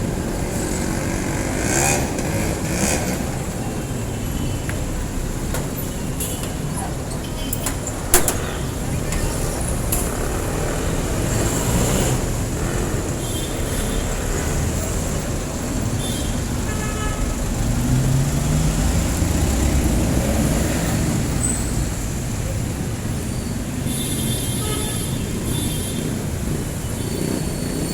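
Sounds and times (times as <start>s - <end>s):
diesel engines running in traffic: 0.0s - 27.9s.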